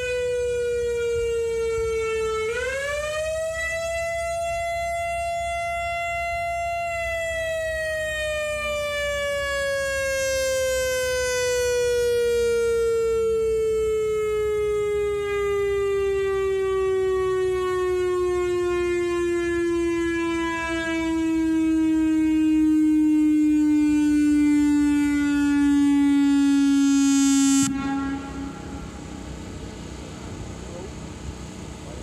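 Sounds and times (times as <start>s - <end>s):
warning siren falling tone: 0.0s - 32.0s.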